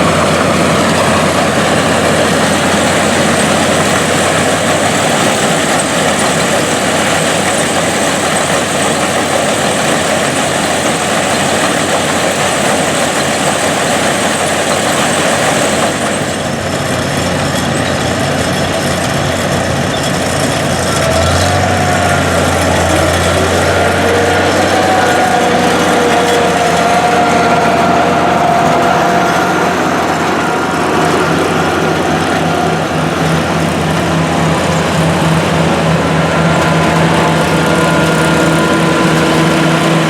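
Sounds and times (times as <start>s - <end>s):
harvesting machinery running: 0.0s - 40.0s
low engine hum: 0.0s - 40.0s
tractor engines running: 0.0s - 40.0s.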